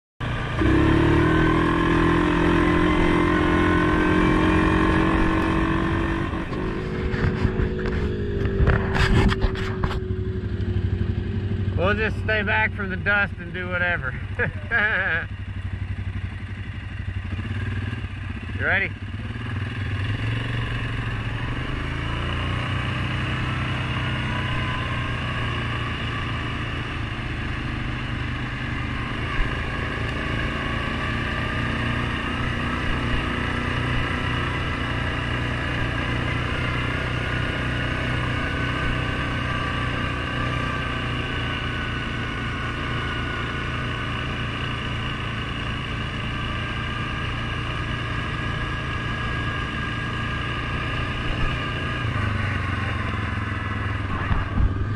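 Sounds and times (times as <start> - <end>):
atv engine running: 0.2 - 54.9.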